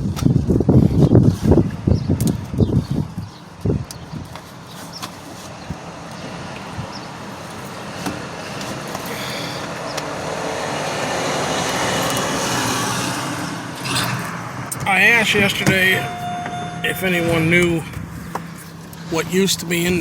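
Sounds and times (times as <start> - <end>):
car engine and tyre noise: 0.0 - 20.0.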